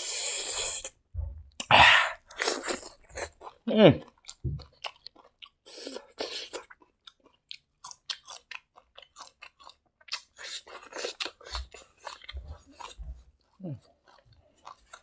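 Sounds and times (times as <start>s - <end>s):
person chewing food: 1.5s - 15.0s.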